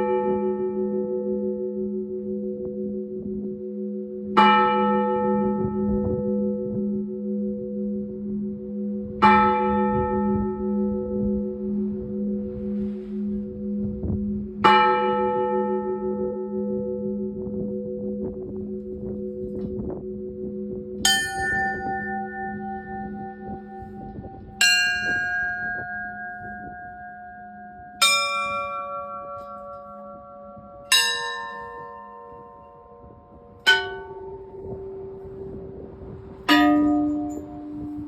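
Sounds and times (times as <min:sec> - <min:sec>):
church bell strokes: 0:00.0 - 0:38.0.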